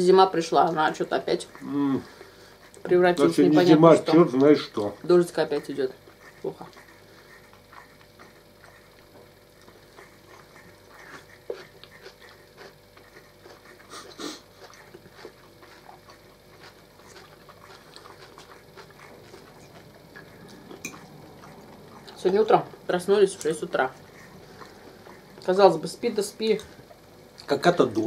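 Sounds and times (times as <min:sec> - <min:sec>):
chewing and mouth noises: 0:00.2 - 0:28.0.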